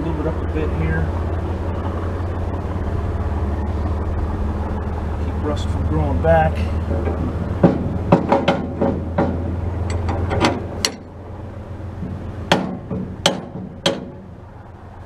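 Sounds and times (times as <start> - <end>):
metal hitch clacking: 0.0 - 14.5
low hum: 0.0 - 15.0.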